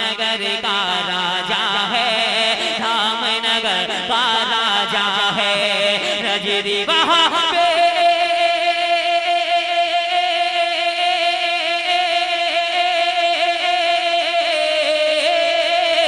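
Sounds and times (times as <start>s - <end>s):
man singing a long note: 0.0s - 16.0s.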